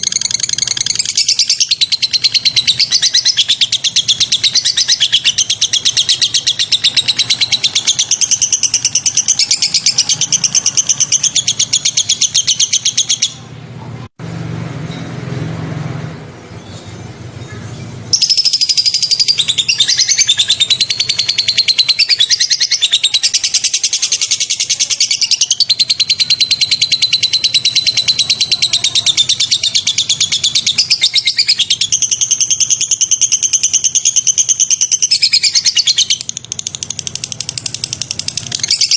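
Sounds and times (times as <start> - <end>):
bird trilling song: 0.0 - 13.5, 16.6 - 38.9.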